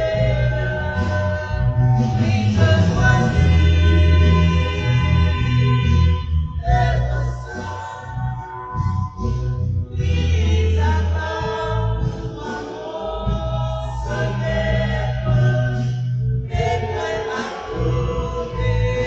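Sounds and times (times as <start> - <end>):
choral singing: 0.0 - 19.0
long held bass notes: 0.0 - 19.0.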